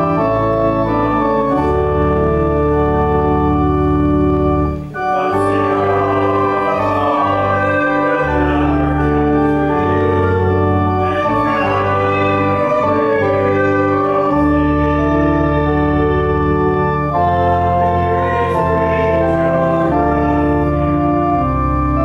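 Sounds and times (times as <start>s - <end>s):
church organ playing chords: 0.0s - 22.0s.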